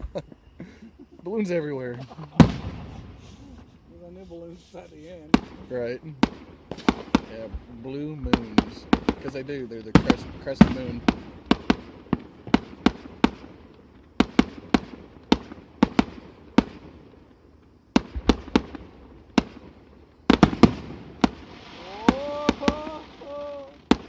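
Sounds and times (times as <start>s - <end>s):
fireworks bangs: 0.0s - 17.3s, 17.9s - 24.0s.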